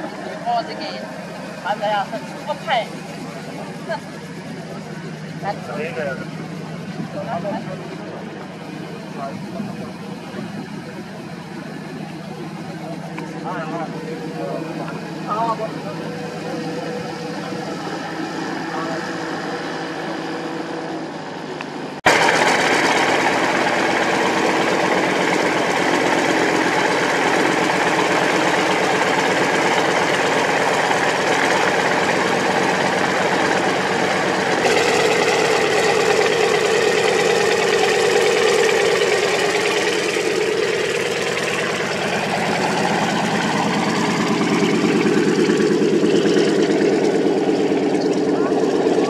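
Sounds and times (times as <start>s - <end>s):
radial aircraft engine running: 0.0s - 49.0s.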